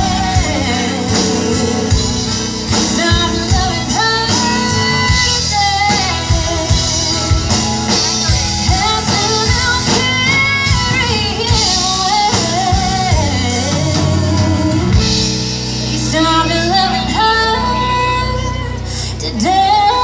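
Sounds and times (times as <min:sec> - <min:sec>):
live band playing: 0:00.0 - 0:20.0
person singing lead vocal: 0:00.0 - 0:20.0.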